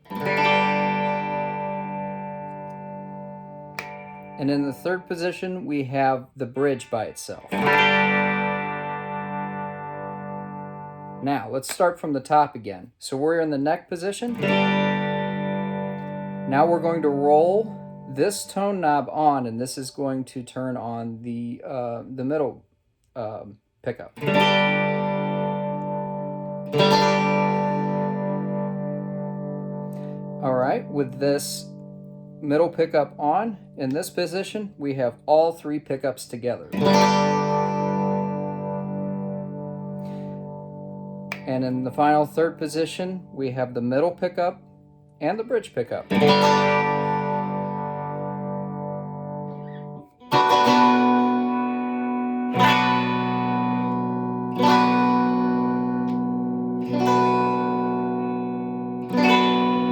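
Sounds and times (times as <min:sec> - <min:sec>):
electric guitar chords ringing: 0:00.0 - 0:11.5, 0:14.3 - 0:19.1, 0:24.2 - 0:35.3, 0:36.6 - 0:59.9.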